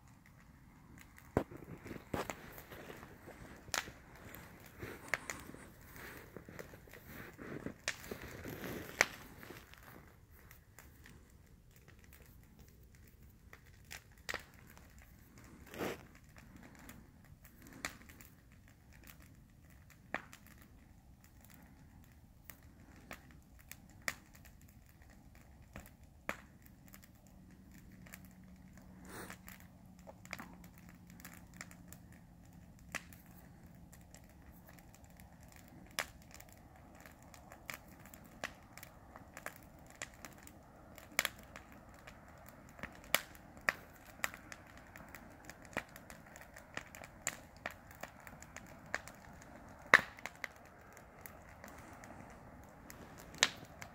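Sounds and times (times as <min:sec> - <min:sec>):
campfire pops and cracks: 0:00.0 - 0:53.9.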